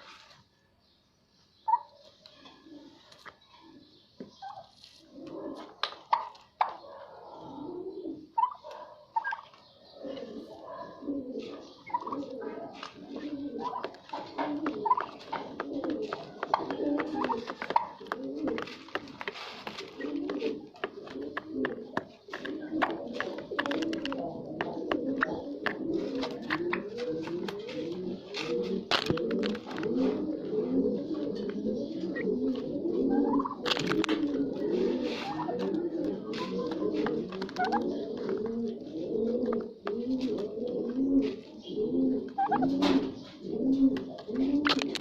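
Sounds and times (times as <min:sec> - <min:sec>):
doves cooing: 0:01.7 - 0:45.0.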